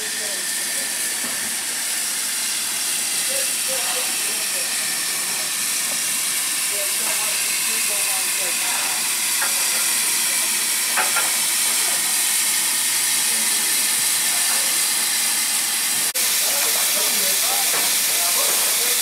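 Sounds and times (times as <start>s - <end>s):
steam locomotive hissing: 0.0s - 19.0s.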